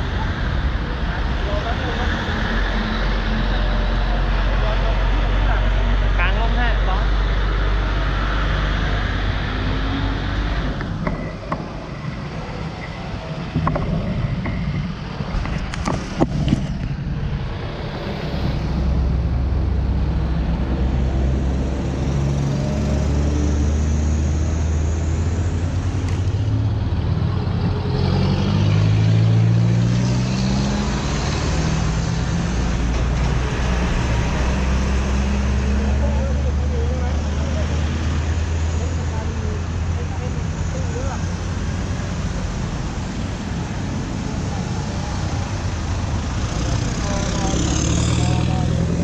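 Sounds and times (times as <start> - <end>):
vehicle engines in traffic: 0.0 - 49.0.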